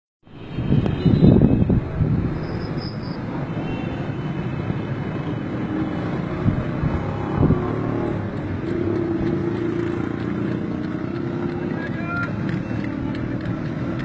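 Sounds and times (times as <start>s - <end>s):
street traffic noise: 0.2s - 14.0s.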